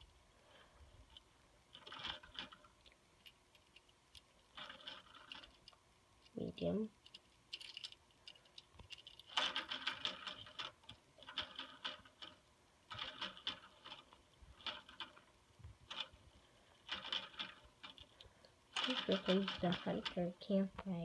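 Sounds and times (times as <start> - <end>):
plastic parts clicking and rattling: 0.0 - 21.0.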